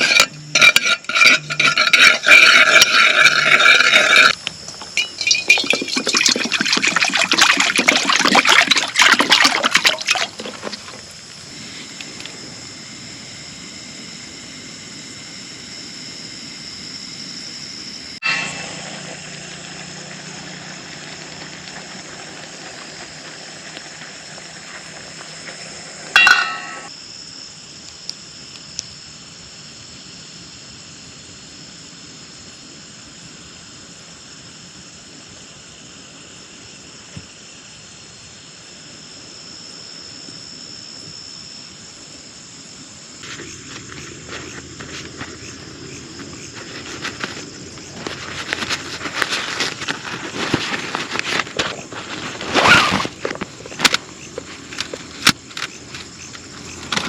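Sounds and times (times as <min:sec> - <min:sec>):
insect chirring: 0:00.0 - 0:57.0.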